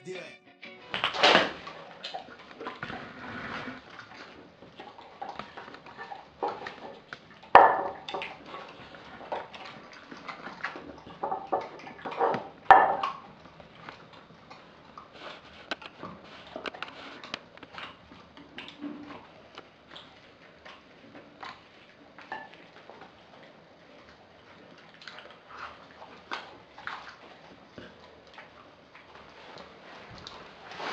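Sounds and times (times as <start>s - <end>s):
dog chewing meat and bones: 1.6s - 30.9s.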